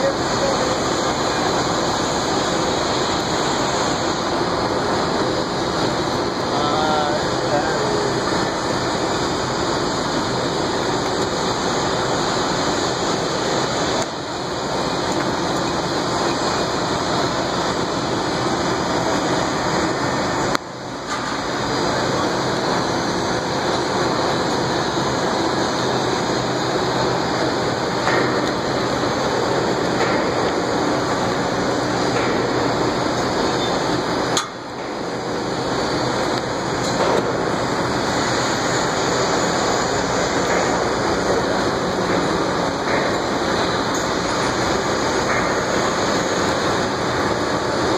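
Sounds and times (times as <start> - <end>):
construction site noise: 0.0 - 47.9.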